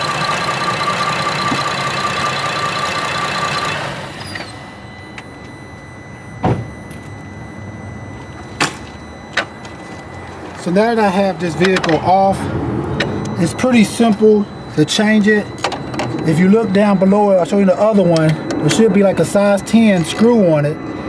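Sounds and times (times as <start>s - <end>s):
car engine idling with whine: 0.0s - 21.0s.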